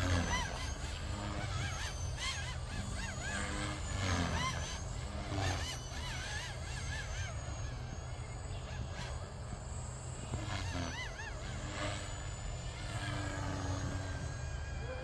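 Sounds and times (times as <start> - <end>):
model helicopter whine: 0.0 - 15.0.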